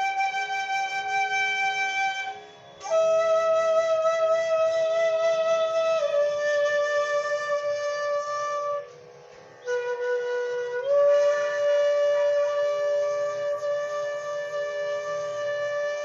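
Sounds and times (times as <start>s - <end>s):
slow flute melody: 0.0s - 16.0s.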